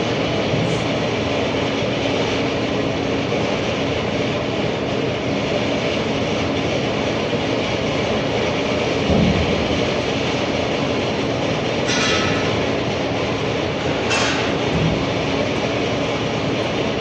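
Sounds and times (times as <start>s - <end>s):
loud machine humming: 0.0s - 17.0s.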